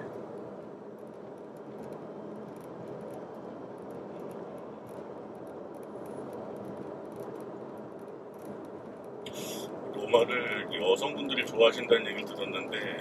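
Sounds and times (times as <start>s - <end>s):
low engine hum: 0.0s - 13.0s
road and tyre rumble: 0.0s - 13.0s.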